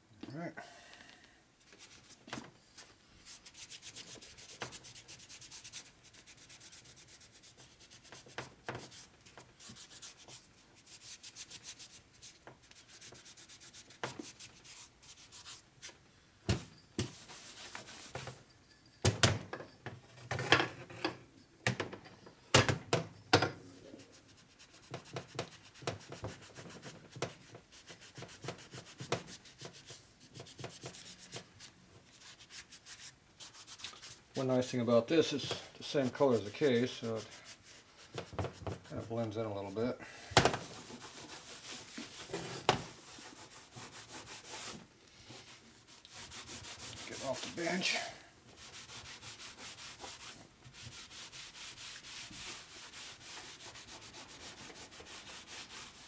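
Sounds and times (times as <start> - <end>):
cloth rubbing on metal: 1.6 - 16.0, 17.0 - 18.5, 23.7 - 40.0, 40.6 - 56.0.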